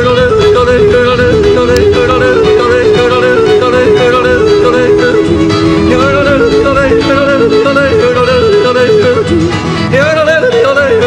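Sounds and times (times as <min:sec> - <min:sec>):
country instrumental backing: 0:00.0 - 0:11.0
person yodeling: 0:00.0 - 0:11.0.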